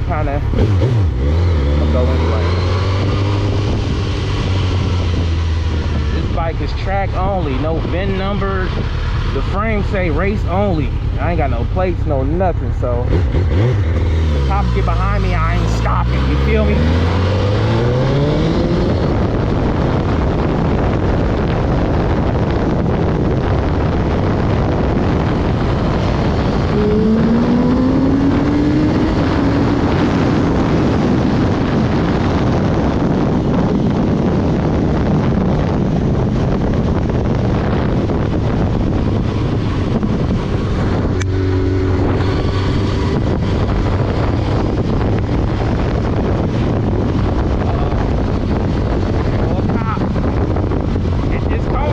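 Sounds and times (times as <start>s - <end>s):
motorcycle engine accelerating: 0.0s - 51.9s
wind noise on microphone: 0.0s - 51.9s.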